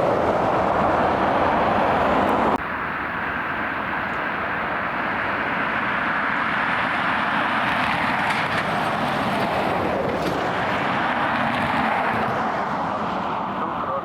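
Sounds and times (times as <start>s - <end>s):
jet engines rushing: 0.0s - 14.0s.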